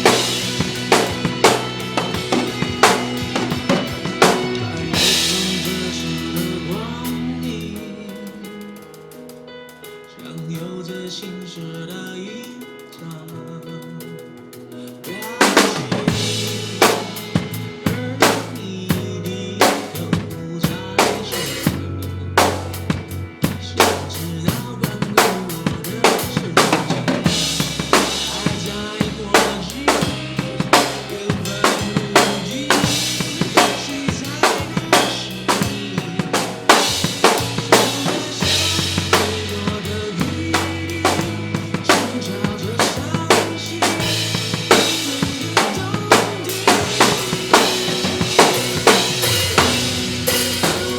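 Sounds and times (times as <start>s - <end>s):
backing track bass notes: 0.0s - 7.8s, 15.8s - 50.9s
drum kit groove: 0.0s - 11.9s, 12.9s - 50.9s.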